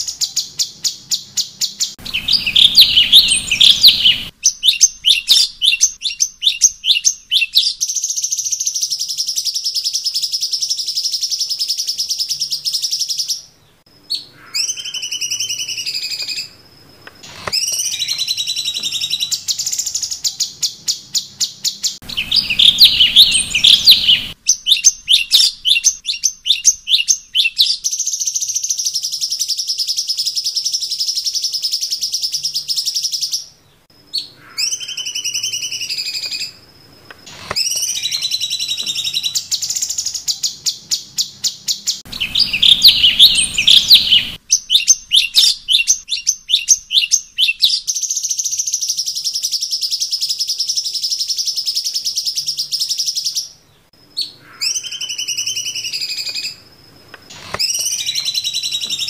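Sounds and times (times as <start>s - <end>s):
whistled bird notes: 0.0s - 16.6s, 17.2s - 36.6s, 37.2s - 56.7s, 57.3s - 59.0s
songbird chirping and trilling: 0.0s - 59.0s.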